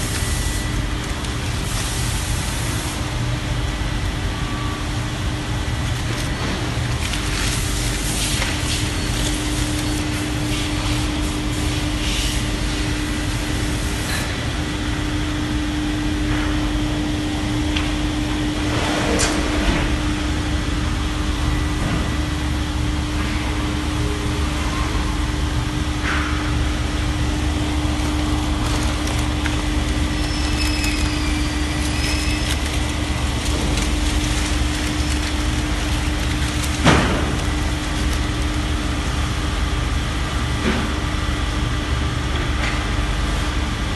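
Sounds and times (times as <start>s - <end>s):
vacuum press machine humming: 0.0s - 43.9s.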